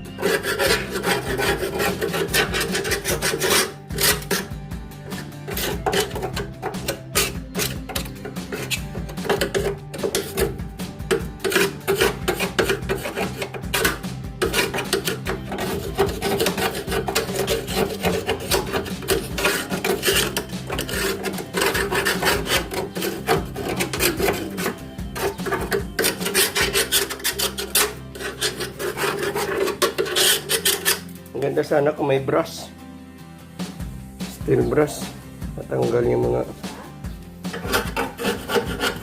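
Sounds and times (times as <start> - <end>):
scrubbing rusty steel: 0.0 - 31.7, 36.7 - 39.0.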